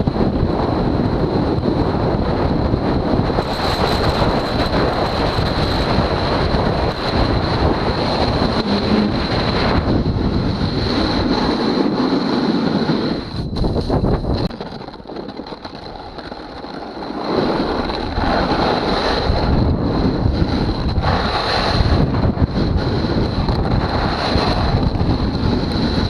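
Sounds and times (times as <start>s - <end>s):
wind buffeting microphone: 0.0s - 26.0s
snowboard scraping icy snow: 0.1s - 26.0s.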